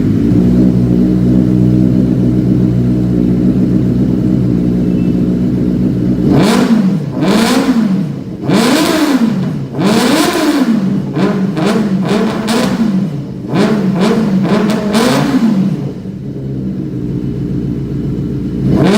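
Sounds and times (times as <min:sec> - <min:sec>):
motorcycle engine idling: 0:00.0 - 0:18.9
motorcycle engine revving: 0:00.0 - 0:18.9.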